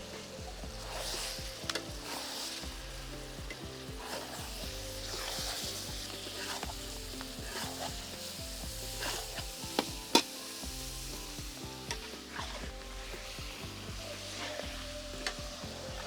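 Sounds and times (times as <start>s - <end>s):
masala sizzling in oil: 0.0s - 16.0s
spatula scraping and knocking pan: 0.0s - 16.0s.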